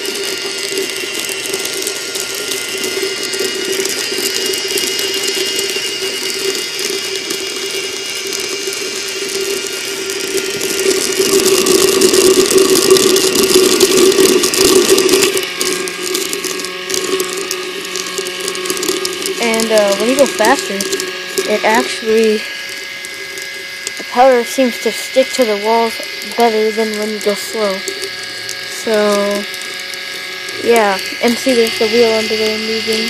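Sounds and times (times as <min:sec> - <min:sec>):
ball bearings tumbling: 0:00.0 - 0:33.0
electric motor humming: 0:00.0 - 0:33.0.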